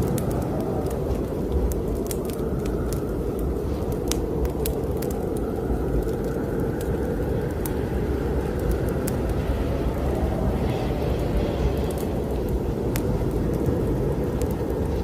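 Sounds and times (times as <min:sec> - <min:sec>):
low wind noise: 0:00.0 - 0:15.0
wood fire crackling: 0:00.0 - 0:15.0.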